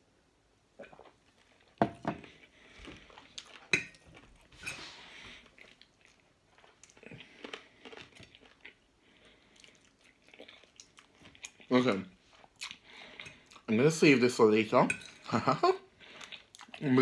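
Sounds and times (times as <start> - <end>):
chewing: 0.8 - 13.7, 16.0 - 17.0.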